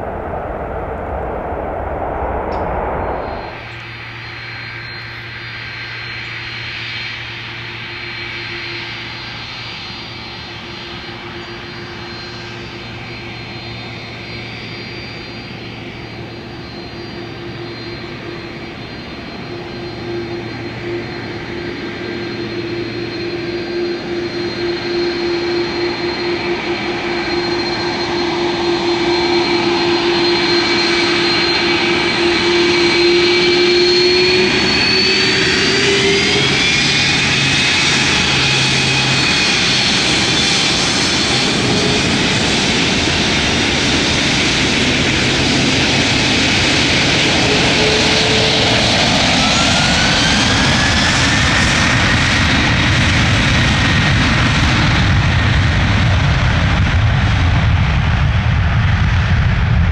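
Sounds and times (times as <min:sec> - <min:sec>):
jet engines whining and rumbling: 0:00.0 - 0:59.9.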